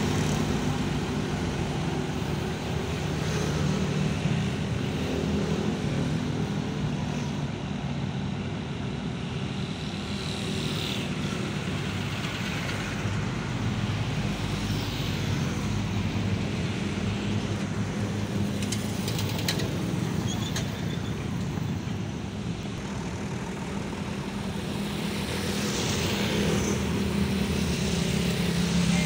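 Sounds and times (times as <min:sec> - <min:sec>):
tractor engines droning: 0:00.0 - 0:29.0.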